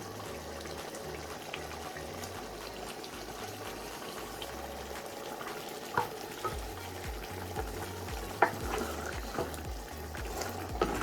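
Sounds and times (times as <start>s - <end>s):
soup bubbling in a pot: 0.0s - 11.0s.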